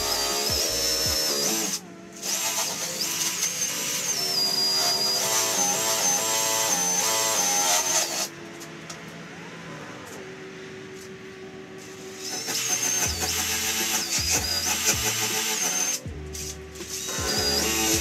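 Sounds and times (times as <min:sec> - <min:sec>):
drill spinning wire brush on metal: 0:00.0 - 0:09.2, 0:11.8 - 0:18.0.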